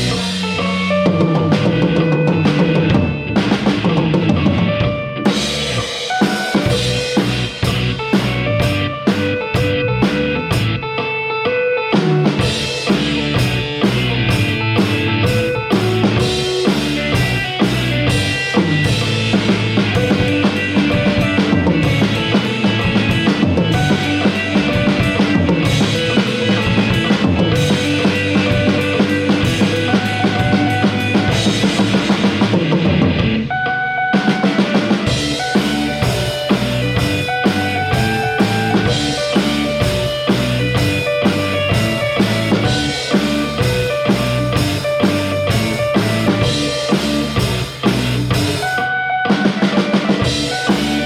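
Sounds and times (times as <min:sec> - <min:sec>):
guitar or bass: 0:00.0 - 0:51.0
rock drum kit playing: 0:00.0 - 0:51.0.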